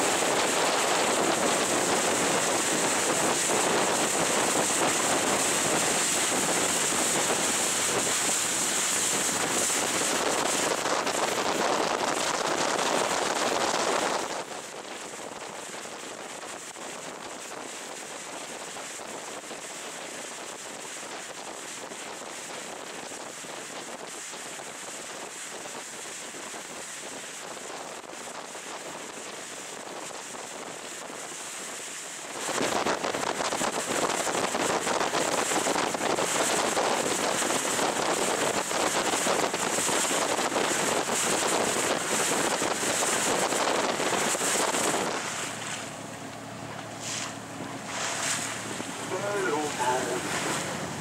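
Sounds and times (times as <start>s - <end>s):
water rushing past boat: 0.0s - 51.0s
wind rushing over microphone: 0.0s - 51.0s.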